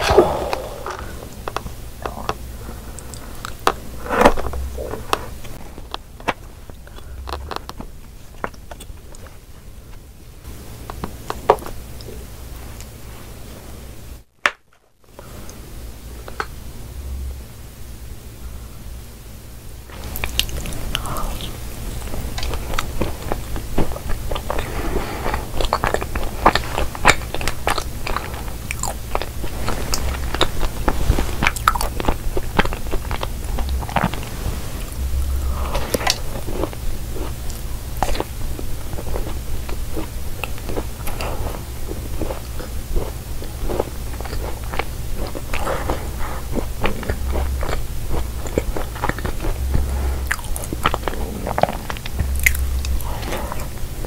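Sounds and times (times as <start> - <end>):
chewing crunchy food: 0.0 - 13.0, 19.9 - 54.0
faint low hum: 0.0 - 54.0.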